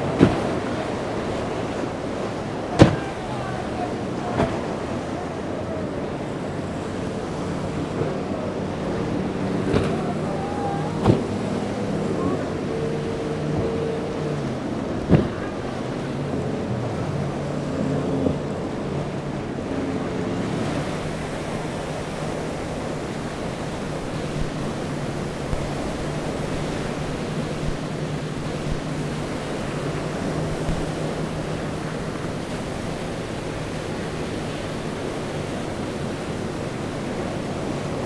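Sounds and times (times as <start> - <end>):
boat engines droning: 0.0 - 38.0
waves and churning surf: 0.0 - 38.0
wind buffeting microphone: 0.0 - 38.0.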